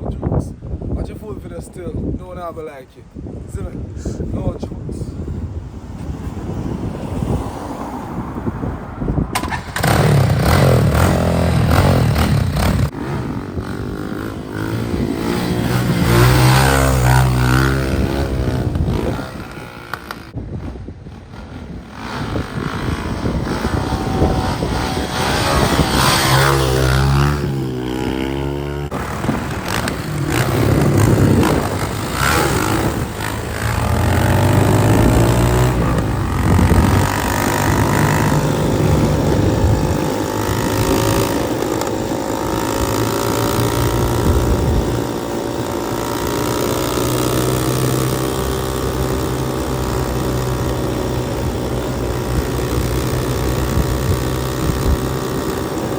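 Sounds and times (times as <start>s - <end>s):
steady rushing noise: 3.3s - 55.9s
motorcycle engine revving: 9.3s - 55.9s.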